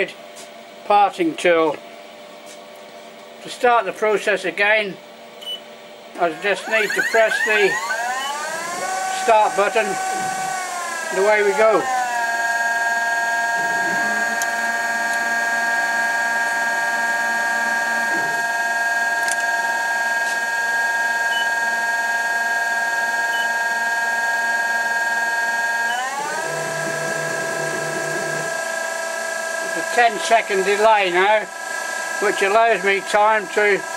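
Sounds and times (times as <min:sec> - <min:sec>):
lathe machine whine: 0:06.2 - 0:33.9.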